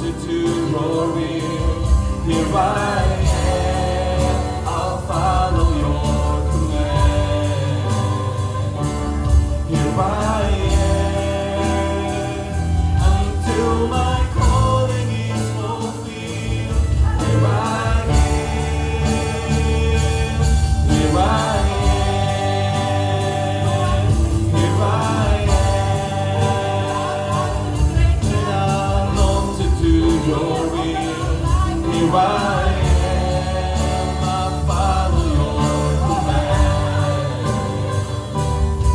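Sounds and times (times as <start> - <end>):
band accompaniment: 0.0 - 38.9
gospel singing: 0.0 - 38.9.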